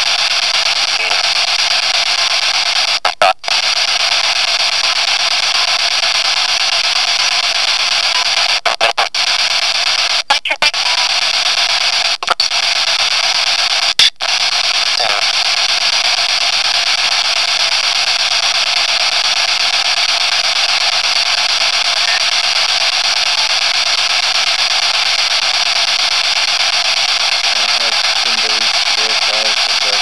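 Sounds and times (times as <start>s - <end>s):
static noise hiss: 0.0s - 30.0s.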